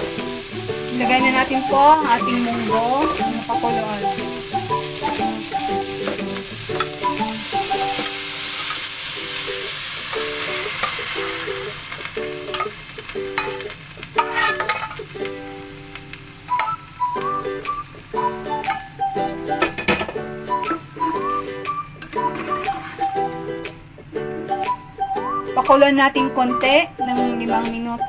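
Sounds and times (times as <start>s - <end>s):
food sizzling in oil: 0.0s - 23.8s
light plucked background music: 0.0s - 28.0s.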